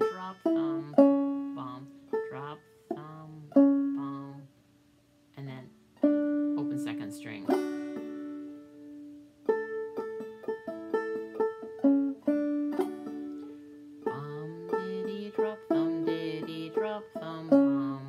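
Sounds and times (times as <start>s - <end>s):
banjo picking a melody: 0.0s - 4.5s, 5.4s - 18.0s.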